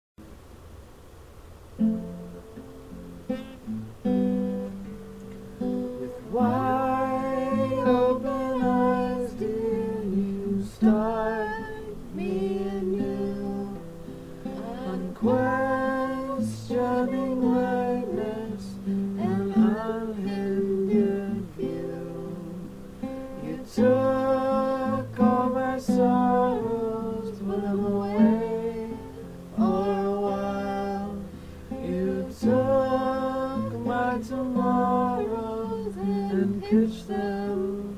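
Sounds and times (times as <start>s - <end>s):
acoustic guitar: 0.2s - 37.9s
person singing: 5.9s - 37.9s.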